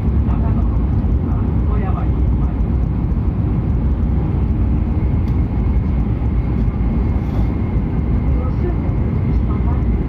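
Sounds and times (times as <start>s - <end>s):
train running noise from inside: 0.0s - 10.0s.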